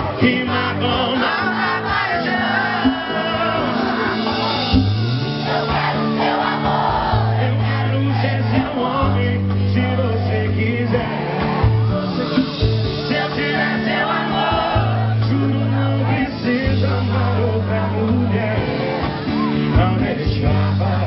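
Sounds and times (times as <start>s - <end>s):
crowd voices: 0.0s - 21.0s
loud song with bass and vocals: 0.0s - 21.0s.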